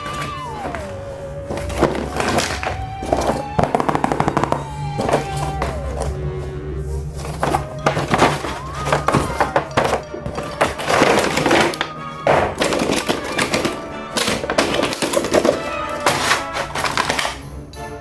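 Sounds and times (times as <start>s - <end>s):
plastic knocks and clatter: 0.0s - 6.2s, 7.2s - 17.4s
background music: 0.0s - 18.0s.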